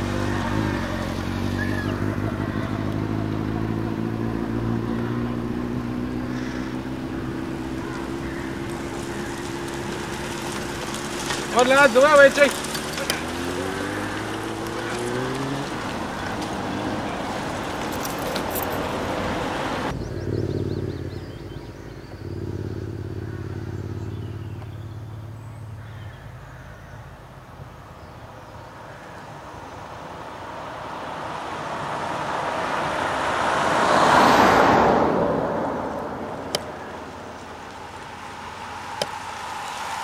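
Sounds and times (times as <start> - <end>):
vehicle passing close: 0.0 - 26.0, 29.3 - 40.0
engine and tyre noise: 0.0 - 40.0.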